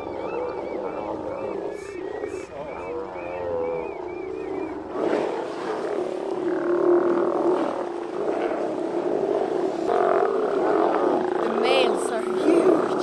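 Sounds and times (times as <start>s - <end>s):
sea lions growling: 0.0s - 13.0s.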